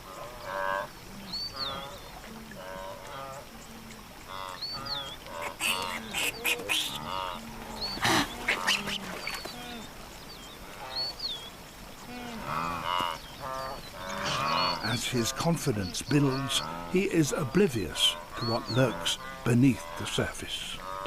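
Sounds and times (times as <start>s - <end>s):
wildebeest grunting: 0.0s - 9.9s, 12.1s - 21.0s.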